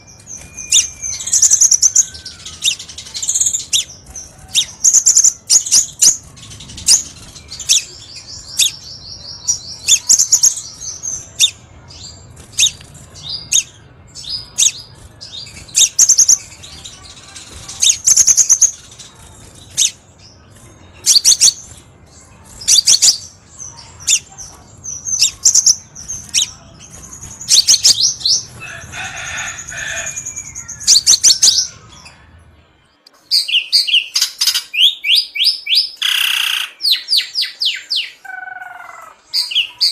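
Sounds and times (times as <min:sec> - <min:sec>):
bird chirps and trills: 0:00.0 - 0:32.6.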